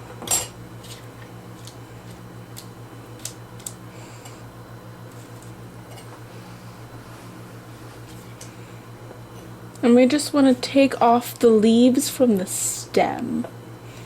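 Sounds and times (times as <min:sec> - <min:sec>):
appliance humming: 0:00.0 - 0:14.0.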